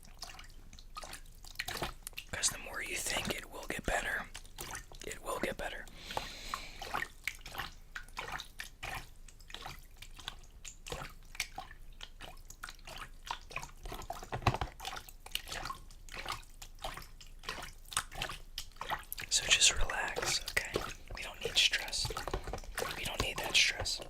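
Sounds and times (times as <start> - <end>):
water sloshing in a container: 0.0 - 24.0.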